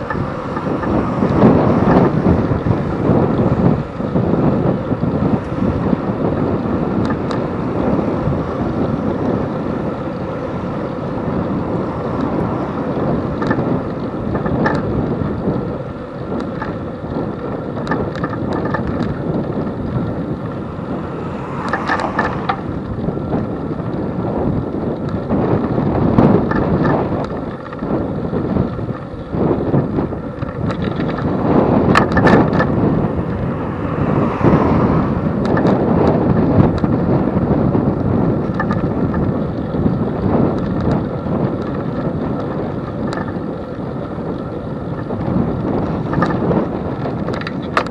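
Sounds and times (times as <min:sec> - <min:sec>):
bicycle road noise: 0:00.0 - 0:47.9
wind rushing over microphone: 0:00.0 - 0:47.9.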